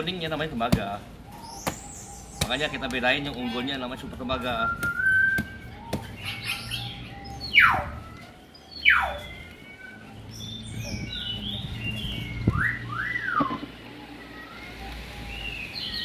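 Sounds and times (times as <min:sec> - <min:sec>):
falling whistled bird calls: 0:01.3 - 0:16.0.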